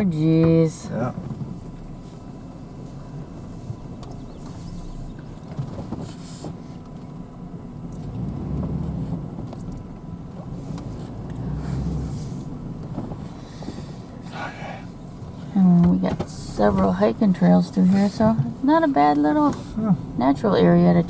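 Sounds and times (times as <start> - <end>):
truck engine and road rumble: 0.0 - 21.0.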